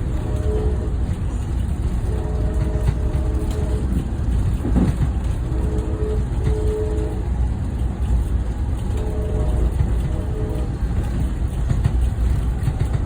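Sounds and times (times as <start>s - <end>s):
train carriage rumble: 0.0s - 13.0s.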